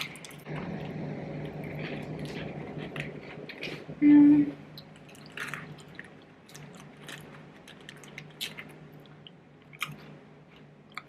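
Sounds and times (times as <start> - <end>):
person chewing a snack: 0.0 - 3.9, 4.7 - 11.0
steady low hum: 0.0 - 11.0.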